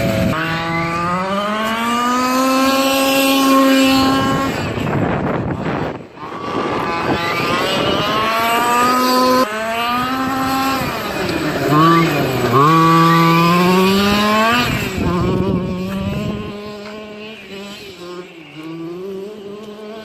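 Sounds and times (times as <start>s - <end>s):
small two-stroke engine revving: 0.0s - 20.0s.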